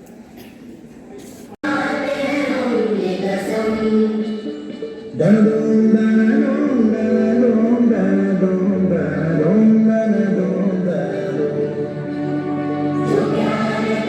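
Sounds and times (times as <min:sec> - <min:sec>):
song over speakers: 0:01.6 - 0:14.0.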